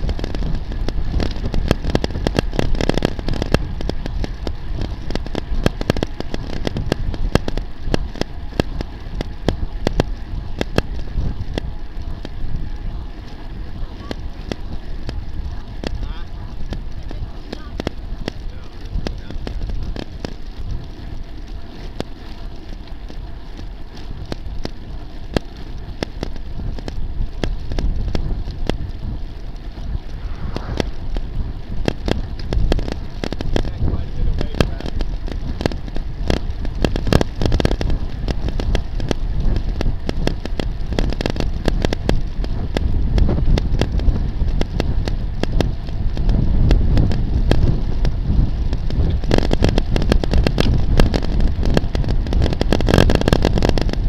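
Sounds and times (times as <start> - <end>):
wind rushing over microphone: 0.0 - 21.3, 23.2 - 54.0
bicycle tyre and road noise: 0.0 - 54.0.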